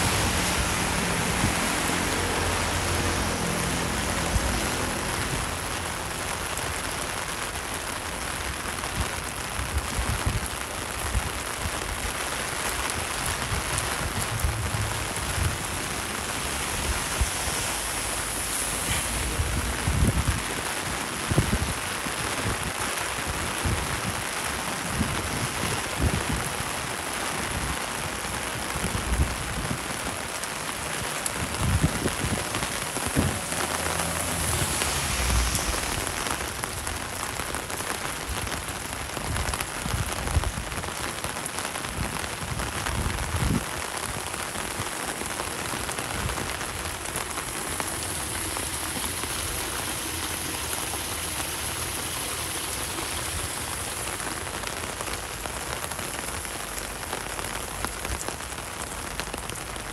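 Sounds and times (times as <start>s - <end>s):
rain on street hiss: 0.0s - 59.9s.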